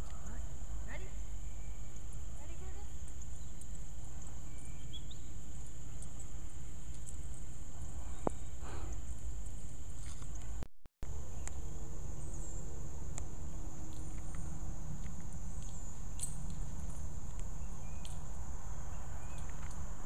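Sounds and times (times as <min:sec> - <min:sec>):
insects chirping: 0:00.0 - 0:10.4, 0:11.1 - 0:20.0.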